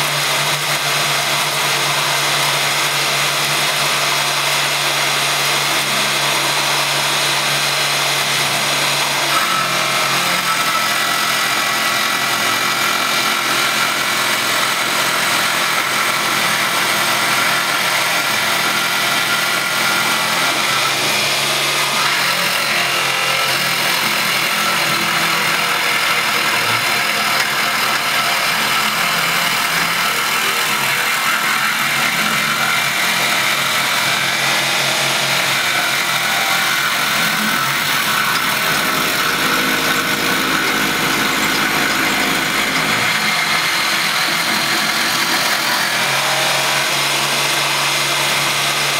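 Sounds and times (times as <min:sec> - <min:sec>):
milling machine cutting wood: 0:00.0 - 0:48.9.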